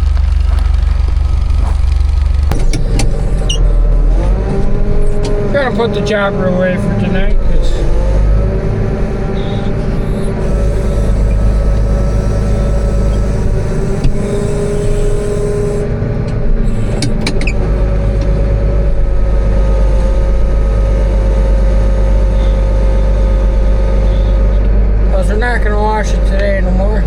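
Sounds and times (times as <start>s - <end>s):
farm machinery engine running: 0.0s - 27.0s.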